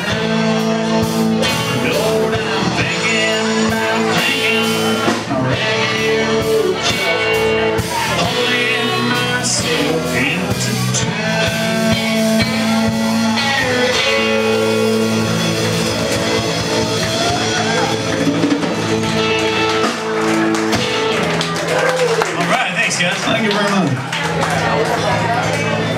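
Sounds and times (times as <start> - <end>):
electric guitar bent notes: 0.0 - 25.9
live rock band playing: 0.0 - 25.9.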